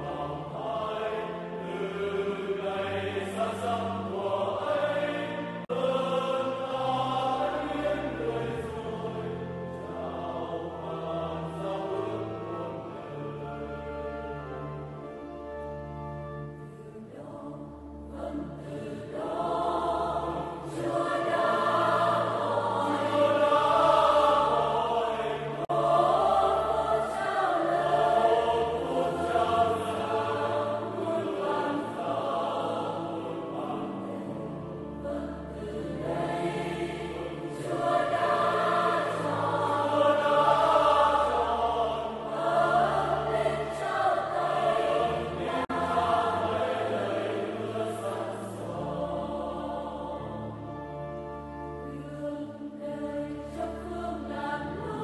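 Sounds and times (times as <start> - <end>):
choir singing sustained chords: 0.0 - 55.0
low held accompaniment: 0.0 - 55.0.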